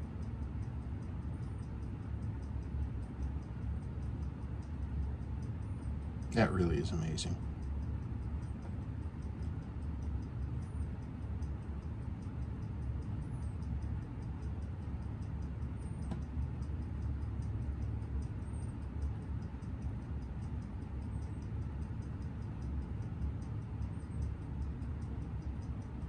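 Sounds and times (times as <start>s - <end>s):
steady low hum: 0.0s - 26.0s
watch ticking: 0.1s - 26.0s.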